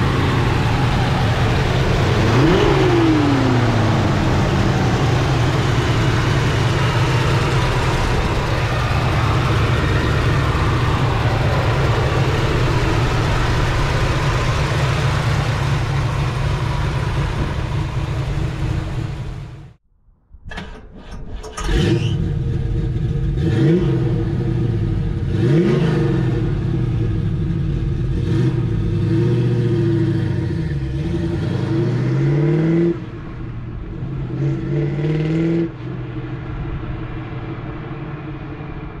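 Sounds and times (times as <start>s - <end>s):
car engine revving and accelerating: 0.0s - 19.8s, 21.6s - 39.0s.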